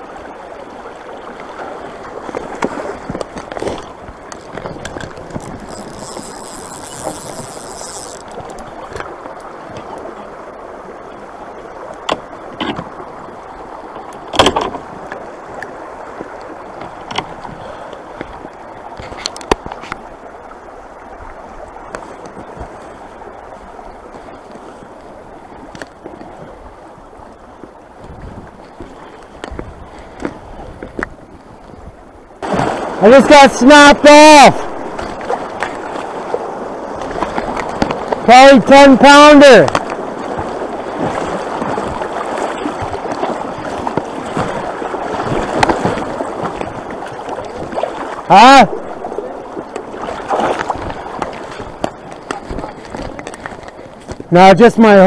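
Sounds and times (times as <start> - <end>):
creek water running over logs: 0.0 - 55.0.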